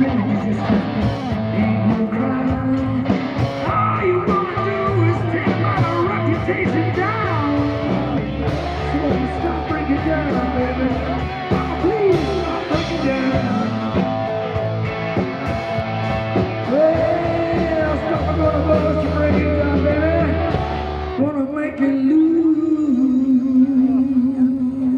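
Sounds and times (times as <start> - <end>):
drum kit: 0.0 - 21.2
bass guitar: 0.0 - 24.9
electric guitars: 0.0 - 24.9
lead singer: 0.0 - 24.9.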